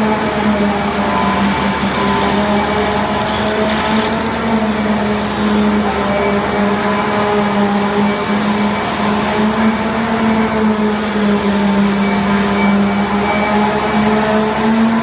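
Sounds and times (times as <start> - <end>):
loud hiss: 0.0 - 15.0
workshop machine humming: 0.0 - 15.0.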